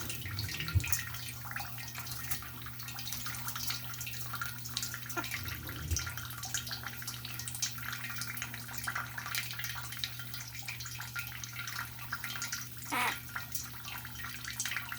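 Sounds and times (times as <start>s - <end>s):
water spattering and dripping: 0.0s - 14.9s.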